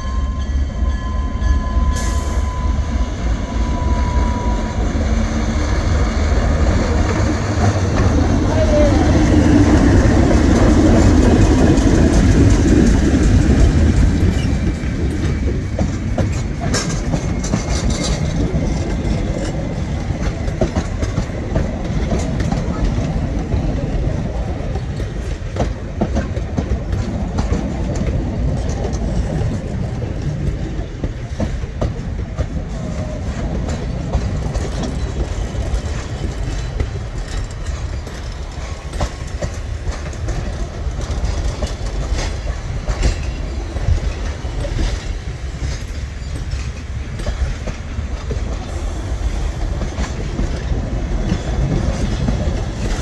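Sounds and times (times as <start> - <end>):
train rumbling past: 0.0 - 53.0
wheels clicking over rail joints: 3.7 - 53.0.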